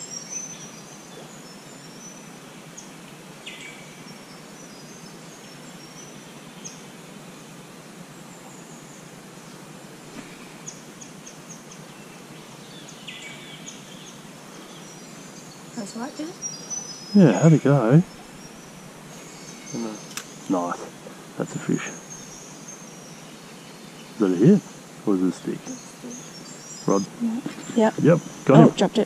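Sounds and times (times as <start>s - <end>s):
birds chirping: 0.0s - 29.0s
creek water rushing: 0.7s - 29.0s.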